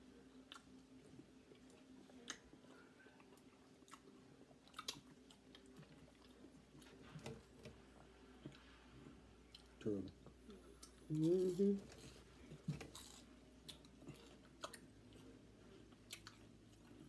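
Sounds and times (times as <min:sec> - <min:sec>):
close-up chewing: 0:00.2 - 0:08.7, 0:09.4 - 0:17.0.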